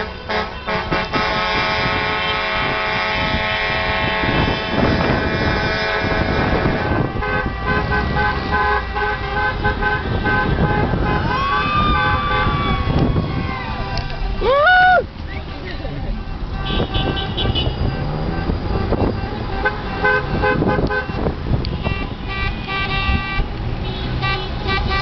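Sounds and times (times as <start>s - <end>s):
car horns honking: 0.0s - 12.8s, 15.6s - 25.0s
traffic noise: 0.0s - 25.0s.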